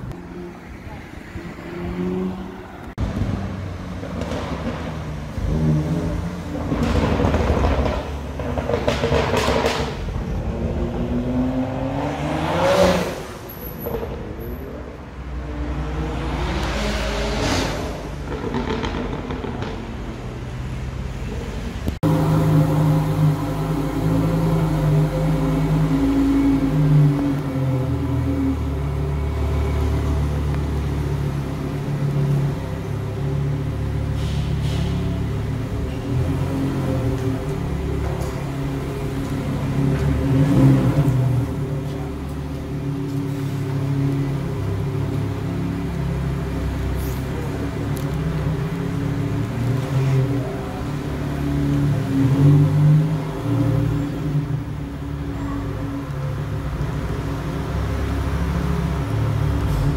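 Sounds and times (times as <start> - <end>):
sports car engines accelerating: 0.0 - 59.9.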